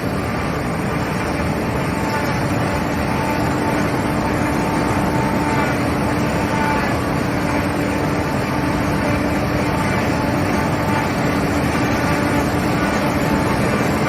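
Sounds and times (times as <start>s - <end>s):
combine harvester running: 0.0s - 14.0s
steady mechanical whine: 0.0s - 14.0s.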